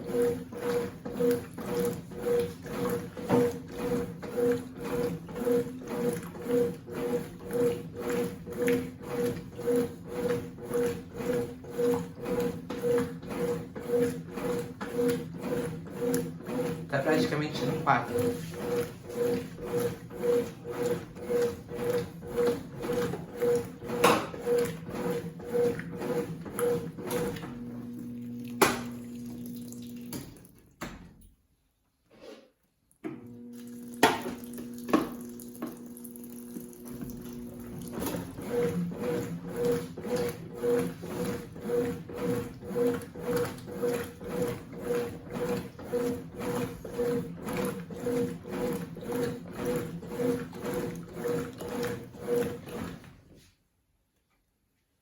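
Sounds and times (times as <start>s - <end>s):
washing machine water sloshing: 0.0s - 31.1s, 33.1s - 53.5s
washing machine hum: 0.0s - 31.4s, 33.0s - 53.6s.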